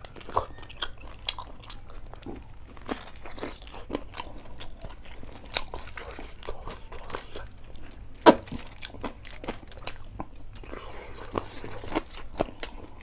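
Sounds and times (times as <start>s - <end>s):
man biting and chewing food: 0.0s - 13.0s.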